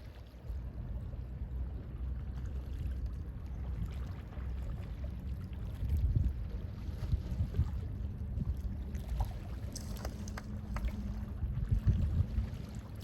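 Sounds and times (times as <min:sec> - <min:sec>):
wind rumbling on microphone: 0:00.5 - 0:13.0.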